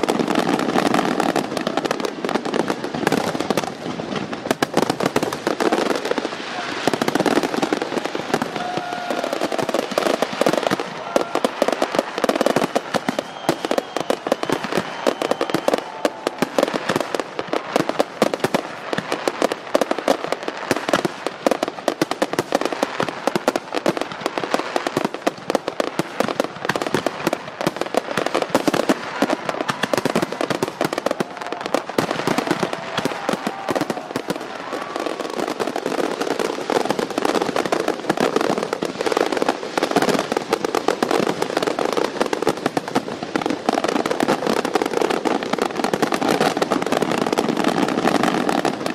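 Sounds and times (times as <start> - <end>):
fireworks cracking and popping: 0.0 - 48.9.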